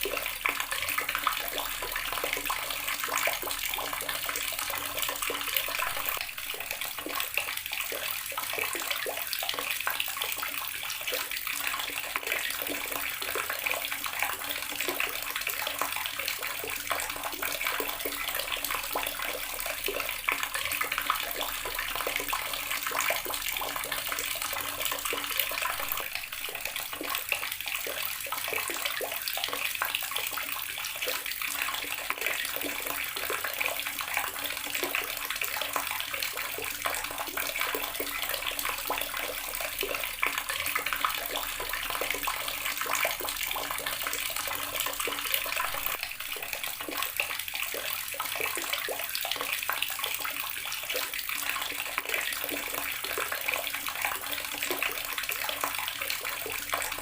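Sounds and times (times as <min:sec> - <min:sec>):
water tap running and splashing: 0:00.0 - 0:57.0.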